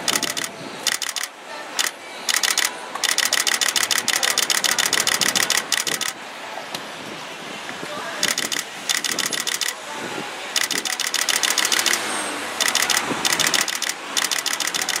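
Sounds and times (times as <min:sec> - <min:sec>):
camera shutters firing in bursts: 0:00.0 - 0:06.2, 0:08.2 - 0:09.8, 0:10.6 - 0:15.0.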